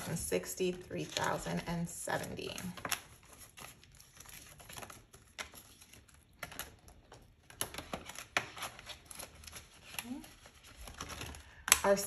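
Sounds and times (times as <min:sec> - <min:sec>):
paper money rustling: 0:00.1 - 0:12.0.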